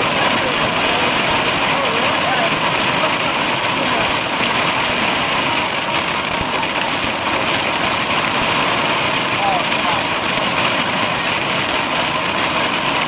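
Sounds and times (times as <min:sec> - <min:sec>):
hail pelting vehicle roof: 0:00.0 - 0:13.0.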